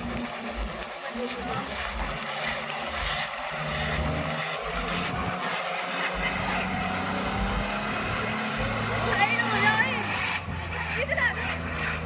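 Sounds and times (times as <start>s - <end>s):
road and wind noise: 0.0s - 12.0s
vehicle engine running: 0.0s - 12.0s.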